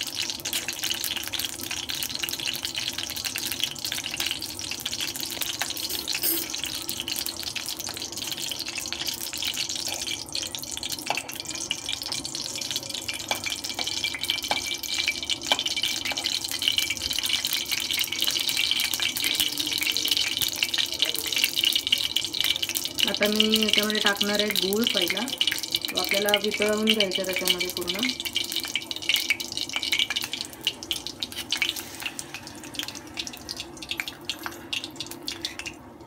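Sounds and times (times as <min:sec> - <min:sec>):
ghee sizzling in a pan: 0:00.0 - 0:36.0.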